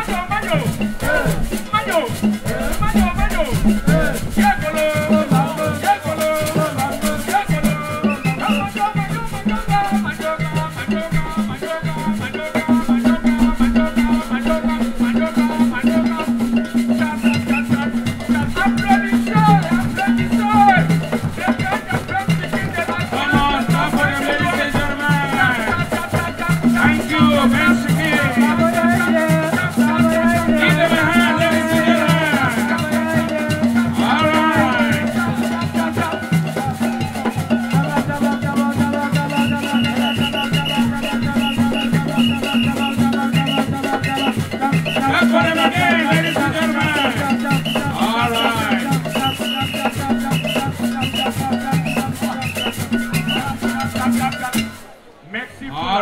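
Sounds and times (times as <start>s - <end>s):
hand drums and rattles: 0.0s - 55.0s
voices singing: 0.0s - 56.0s.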